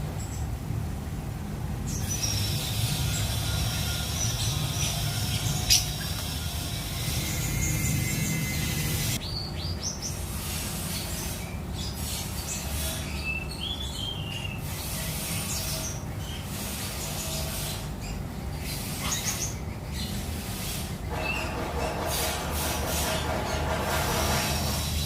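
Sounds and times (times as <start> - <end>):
bird chirping and warbling: 1.9 - 25.0.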